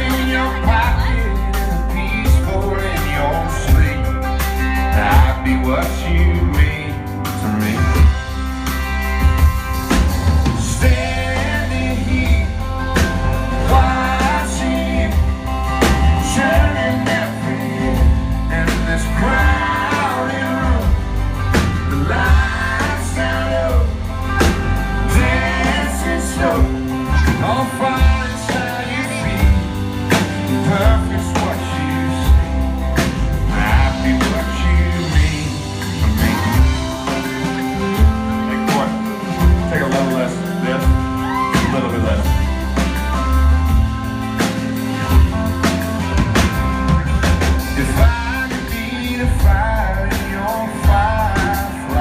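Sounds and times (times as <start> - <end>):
person singing: 0.0 - 8.4, 10.4 - 42.9, 46.9 - 52.0
bass line: 0.0 - 52.0
drums: 0.0 - 52.0
live band playing: 0.0 - 52.0
sliding melodic lead: 0.0 - 52.0.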